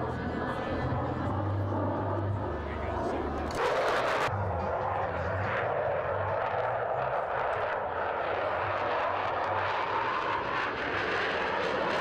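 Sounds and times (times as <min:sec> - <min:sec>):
jet engine roar overhead: 0:00.0 - 0:12.0.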